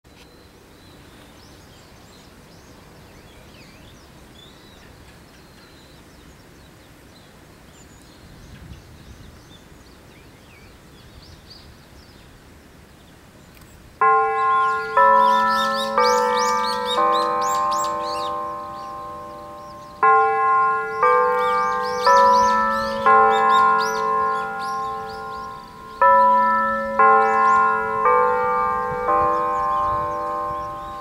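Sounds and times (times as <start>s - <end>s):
small birds chirping: 0.1s - 31.0s
steady background hiss: 0.1s - 31.0s.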